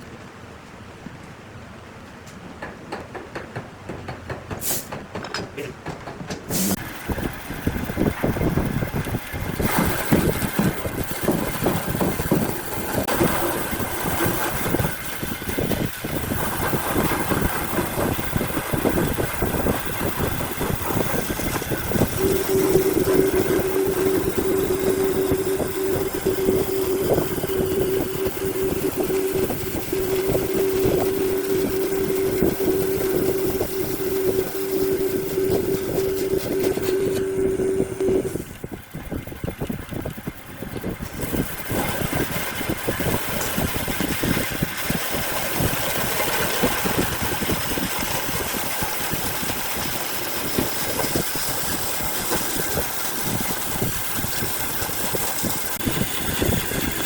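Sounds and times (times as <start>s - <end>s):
steady motor hum: 2.6s - 57.0s
woodworking machine cutting: 6.4s - 38.7s, 40.9s - 57.0s.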